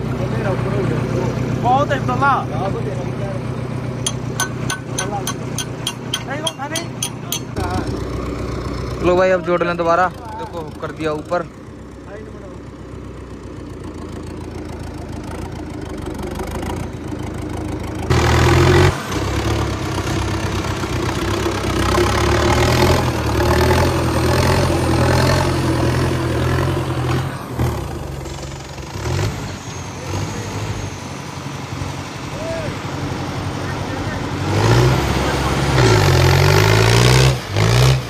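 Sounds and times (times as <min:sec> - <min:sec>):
tractor diesel engine revving: 0:00.0 - 0:38.0.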